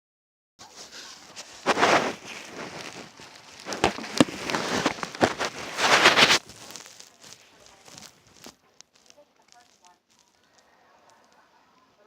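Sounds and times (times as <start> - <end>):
wet squelching of slime: 0.9 - 11.3.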